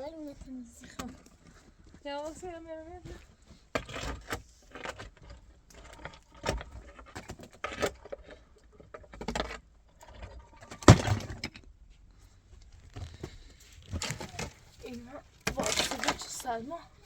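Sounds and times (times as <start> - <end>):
knocks and rattles of handling: 0.0 - 17.0.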